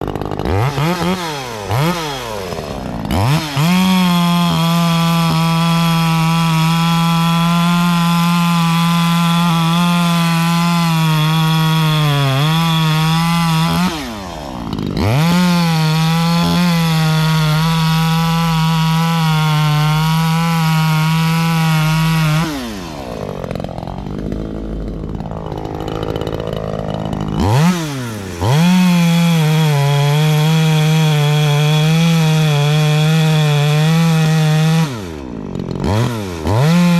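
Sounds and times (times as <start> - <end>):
chainsaw at full throttle: 0.0 - 36.9.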